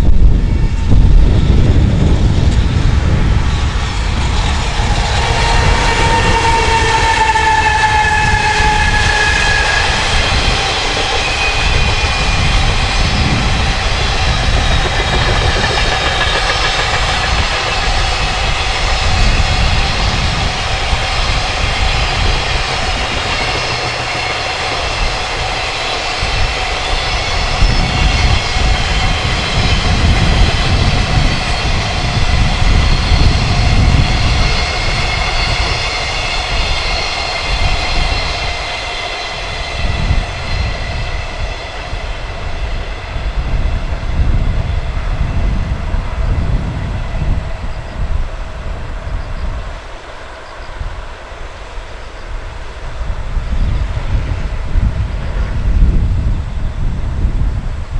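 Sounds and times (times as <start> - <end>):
freight train passing: 0.0 - 57.9
wind buffeting microphone: 0.0 - 57.9.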